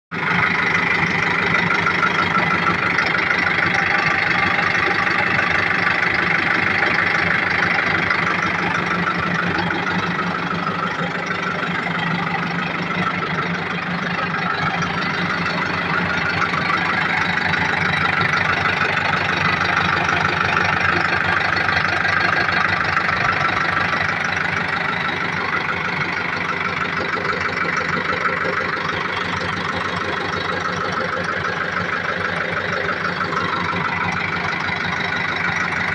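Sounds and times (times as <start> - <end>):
diesel engine idling: 0.1 - 35.9.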